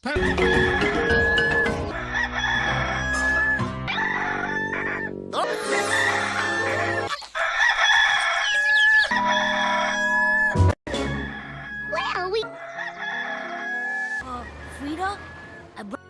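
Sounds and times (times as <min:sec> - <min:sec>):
background music: 0:00.0 - 0:07.1, 0:09.1 - 0:16.0
rooster crowing: 0:00.0 - 0:15.7.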